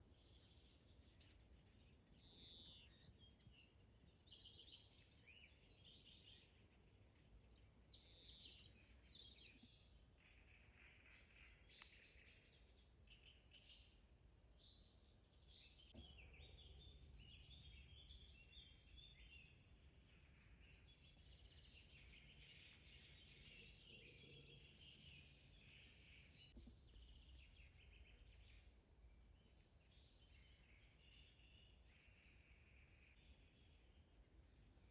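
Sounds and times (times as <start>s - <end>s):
small birds chirping and trilling: 0.0s - 34.9s.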